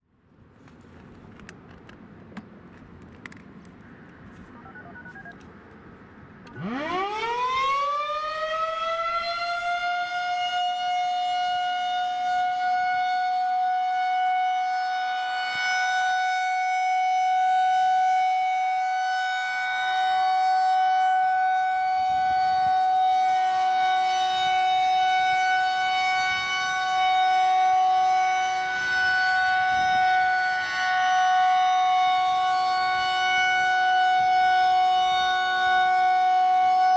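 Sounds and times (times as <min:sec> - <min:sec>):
outdoor warning siren: 0:06.4 - 0:36.9.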